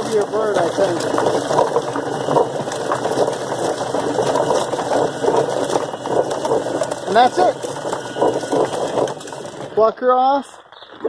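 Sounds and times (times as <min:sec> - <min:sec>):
chicken plucker mechanical clatter: 0:00.0 - 0:11.0.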